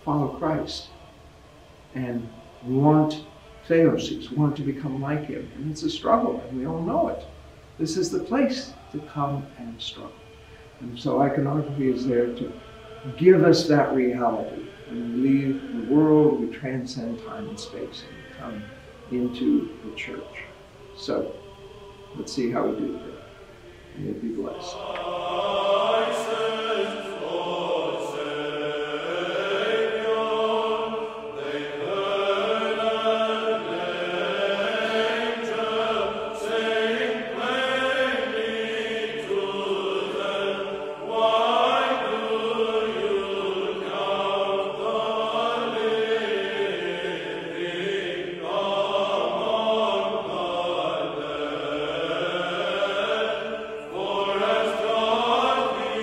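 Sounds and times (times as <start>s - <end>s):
sacred choral chant: 0.0s - 56.0s.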